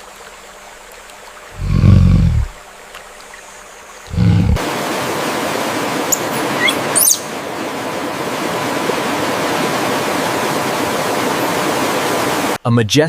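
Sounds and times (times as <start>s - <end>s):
rainforest ambience rushing: 0.0s - 12.6s.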